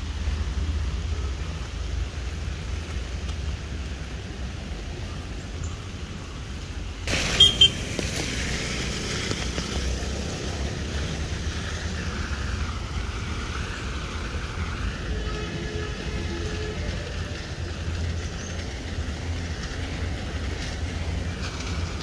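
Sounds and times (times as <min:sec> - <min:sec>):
road traffic on wet road: 0:00.0 - 0:22.0.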